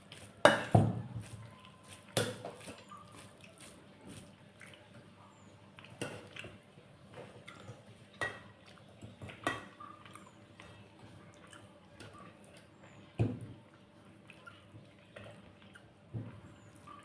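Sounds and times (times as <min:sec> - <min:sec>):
wet eating squelches: 0:01.0 - 0:17.0.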